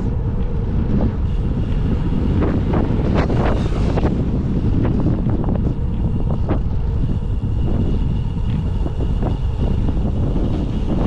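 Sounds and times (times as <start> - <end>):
bicycle rolling on road: 0.0 - 11.0
wind buffeting microphone: 0.0 - 11.0.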